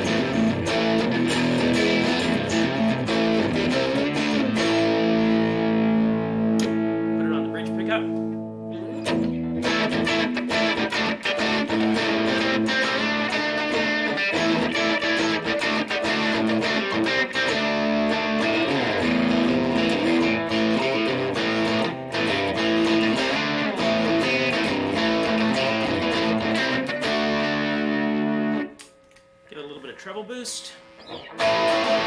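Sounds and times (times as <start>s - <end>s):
overdriven electric guitar: 0.0s - 28.9s, 31.0s - 32.0s.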